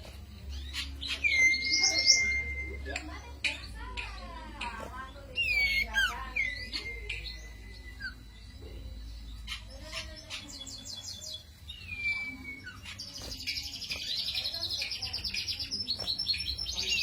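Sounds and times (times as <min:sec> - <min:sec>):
songbird whistled notes: 0:00.6 - 0:02.9, 0:05.3 - 0:17.0.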